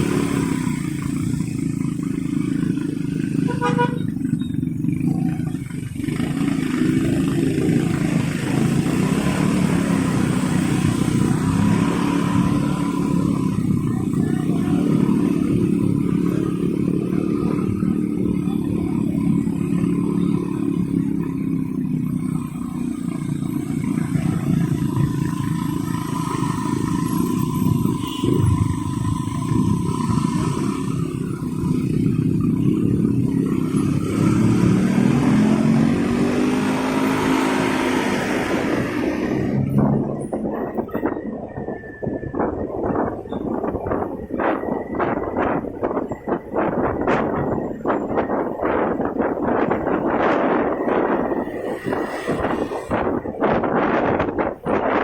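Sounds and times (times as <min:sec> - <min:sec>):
motorcycle engine revving: 0:00.0 - 0:55.0
traffic noise: 0:00.0 - 0:55.0.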